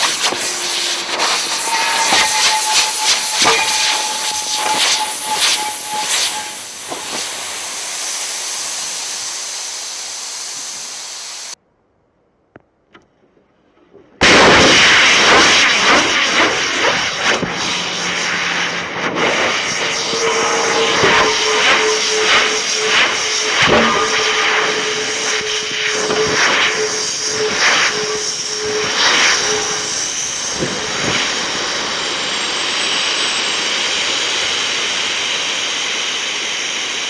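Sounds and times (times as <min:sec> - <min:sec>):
compressed air blast with whistle: 0:00.0 - 0:11.6, 0:14.2 - 0:34.8.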